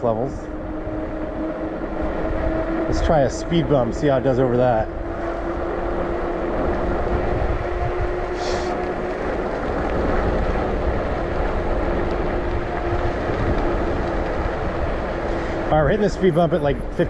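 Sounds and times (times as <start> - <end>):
electric bike motor whining: 0.0 - 16.5
wind rumble on microphone: 0.0 - 17.0.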